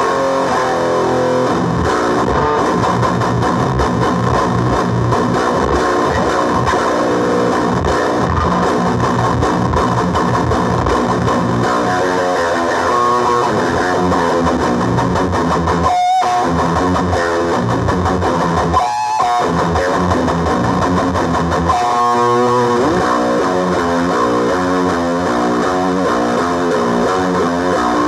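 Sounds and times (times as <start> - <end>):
distorted electric guitar: 0.0 - 28.0.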